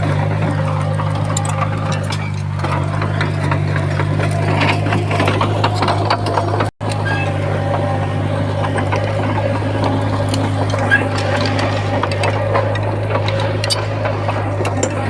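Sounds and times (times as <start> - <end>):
bulldozer diesel engine running: 0.0 - 15.0
clanks and clicks from tracks: 0.0 - 15.0.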